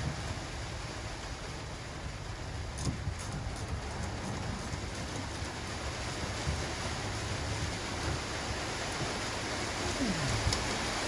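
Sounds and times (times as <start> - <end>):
heavy rain on a van roof: 0.0 - 11.0.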